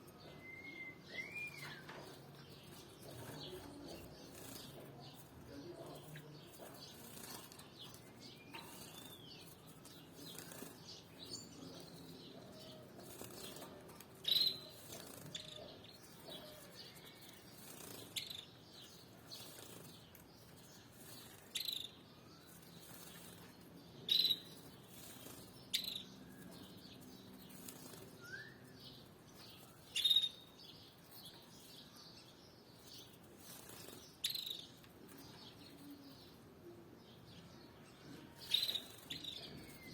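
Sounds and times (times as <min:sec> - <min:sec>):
faint background birds: 0:00.0 - 0:39.9.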